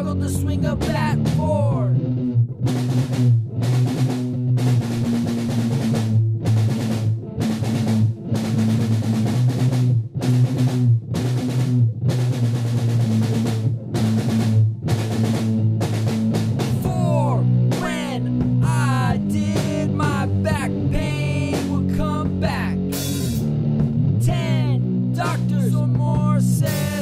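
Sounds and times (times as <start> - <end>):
drum kit pounding: 0.0 - 1.9, 2.5 - 27.0
heavy rock music: 0.0 - 27.0
pitch-bending lead guitar line: 0.0 - 27.0.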